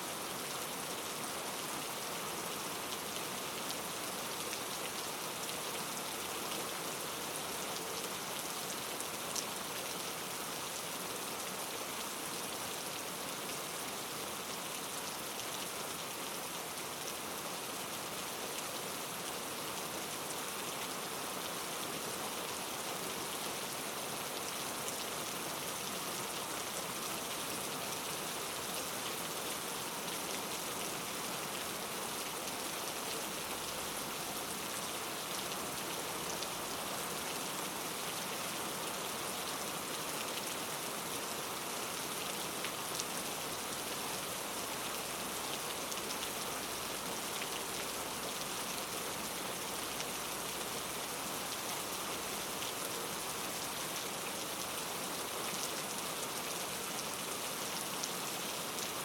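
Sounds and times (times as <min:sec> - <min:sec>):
rain pattering on a surface: 0:00.1 - 0:59.0.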